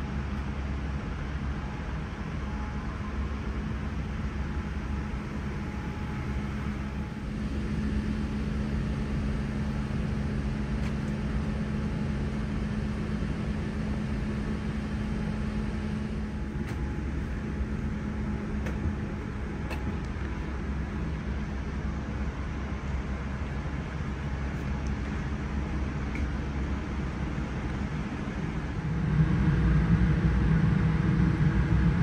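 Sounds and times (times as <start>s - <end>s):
air conditioning rush of air: 0.0s - 32.0s
low hum: 0.0s - 32.0s.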